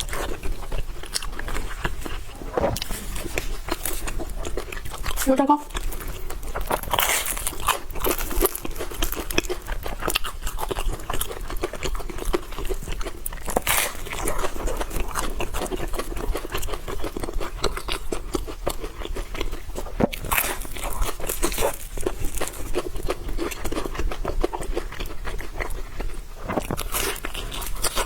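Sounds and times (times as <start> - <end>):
crunchy chewing: 0.0 - 28.0.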